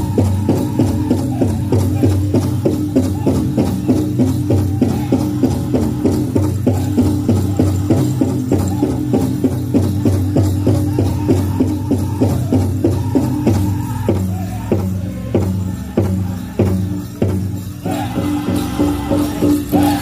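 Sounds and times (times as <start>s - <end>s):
big hand drum beat: 0.0s - 20.0s
group singing in chorus: 0.0s - 20.0s.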